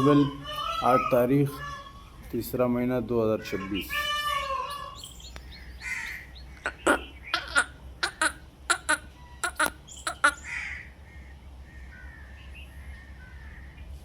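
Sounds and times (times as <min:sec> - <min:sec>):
cranes calling: 0:00.0 - 0:02.5, 0:03.4 - 0:14.0.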